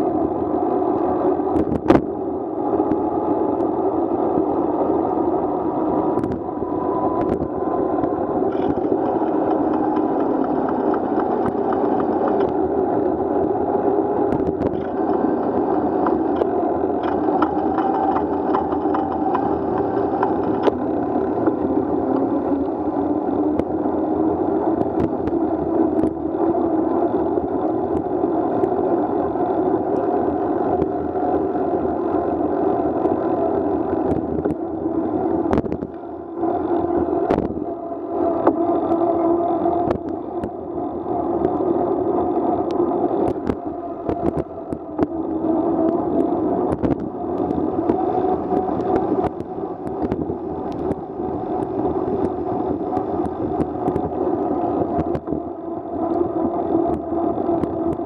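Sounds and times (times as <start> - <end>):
car engines: 0.0 - 58.0
wind on microphone: 0.0 - 58.0.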